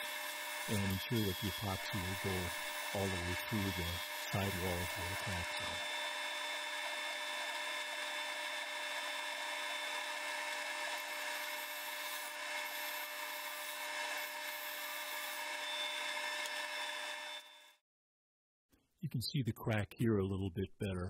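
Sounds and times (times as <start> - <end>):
gouge cutting wood: 0.0 - 17.3
lathe motor running: 0.0 - 17.6.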